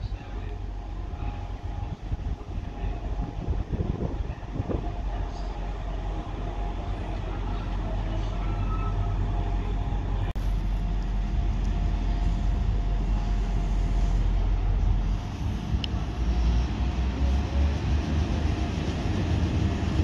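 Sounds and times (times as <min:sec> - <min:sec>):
diesel train engine rumble: 0:00.0 - 0:20.0.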